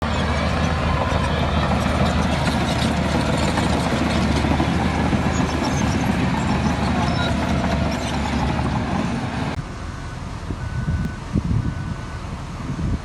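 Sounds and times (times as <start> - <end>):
heavy machine diesel engine running: 0.0 - 13.0.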